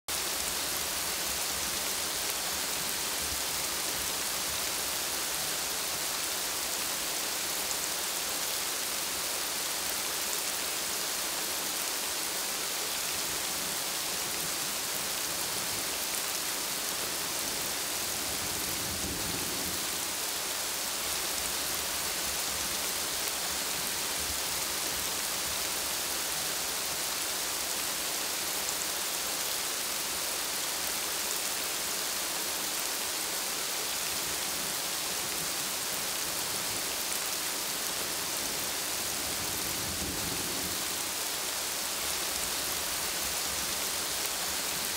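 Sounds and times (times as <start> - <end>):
rain falling on leaves: 0.1 - 44.9.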